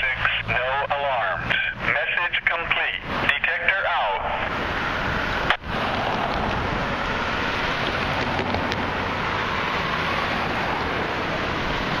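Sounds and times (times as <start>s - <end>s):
car traffic passing: 0.0s - 12.0s.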